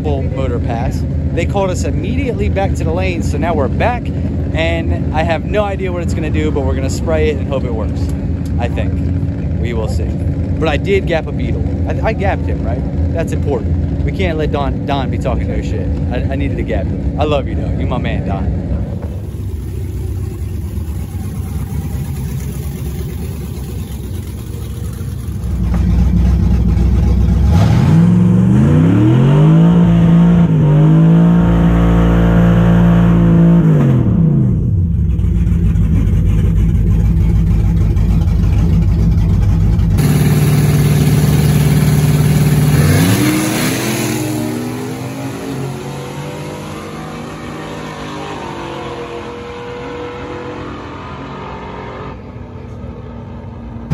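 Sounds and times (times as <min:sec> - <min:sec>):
drag racing engine revving: 0:00.0 - 0:52.5.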